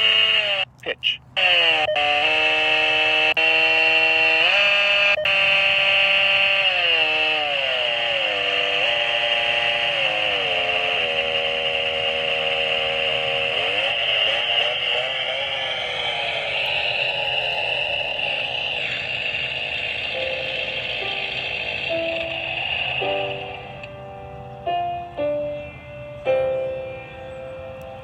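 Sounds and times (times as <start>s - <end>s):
buzzy sliding tones from speaker: 1.4s - 24.1s
steady hiss: 4.4s - 27.2s.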